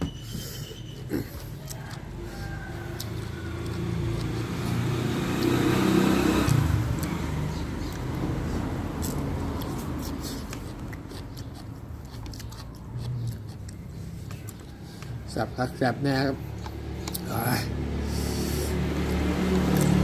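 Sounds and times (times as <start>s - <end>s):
vehicle engine passing by: 1.7s - 20.0s.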